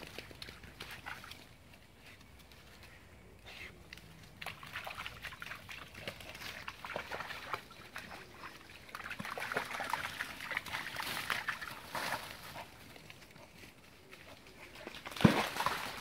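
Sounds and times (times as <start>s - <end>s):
dogs splashing through stream: 0.0s - 16.0s.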